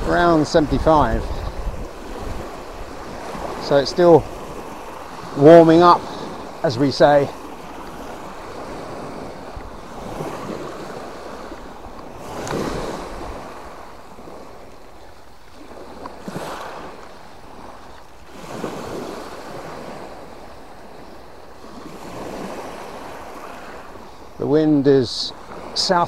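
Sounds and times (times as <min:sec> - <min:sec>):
waves breaking on stone beach: 0:00.0 - 0:26.0.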